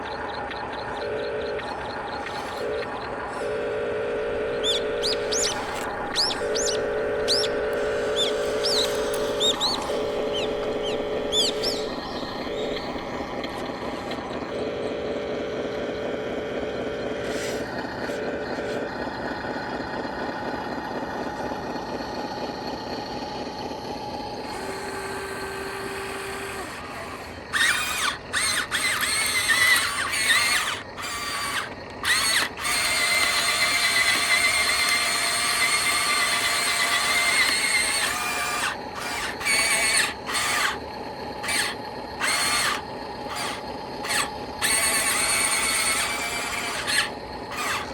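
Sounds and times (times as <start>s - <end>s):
high-pitched motor whines: 0.0s - 47.9s
small electric motors humming: 0.0s - 47.9s.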